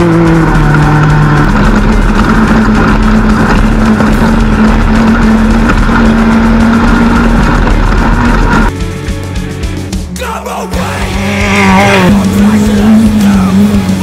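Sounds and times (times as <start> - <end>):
race car engine running hard: 0.0 - 9.5, 10.8 - 14.0
music: 0.0 - 14.0.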